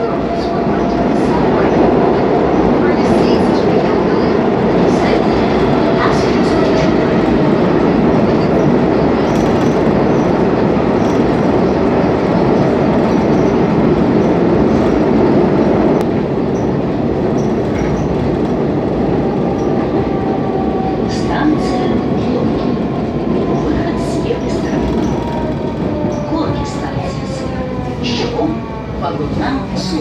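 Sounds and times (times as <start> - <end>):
train rumbling inside carriage: 0.0 - 30.0.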